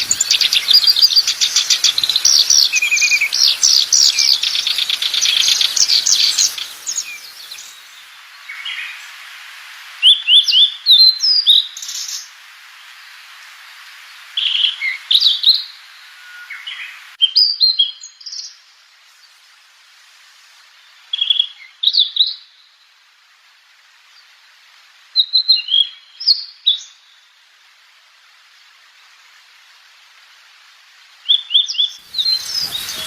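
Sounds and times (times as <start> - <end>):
songbird chirping: 0.0 - 9.4, 10.0 - 27.5, 30.9 - 33.0
steady background hiss: 0.0 - 33.0.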